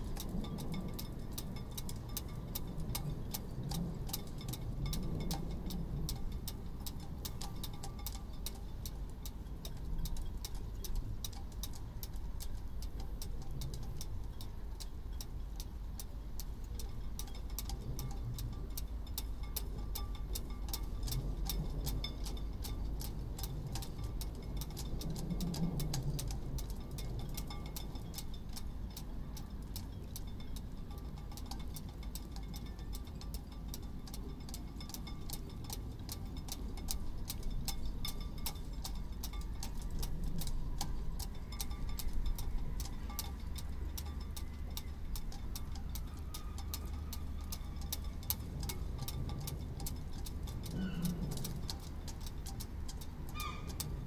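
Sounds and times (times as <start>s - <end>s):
low wind rumble: 0.0s - 54.0s
rigging line tapping mast: 0.0s - 54.0s.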